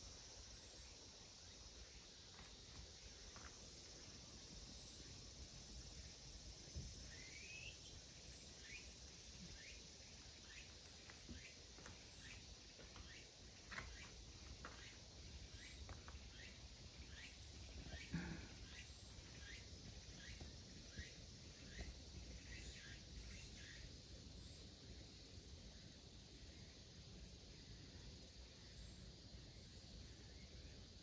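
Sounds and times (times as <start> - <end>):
insect drone: 0.0 - 31.0
short insect chirp: 0.0 - 31.0.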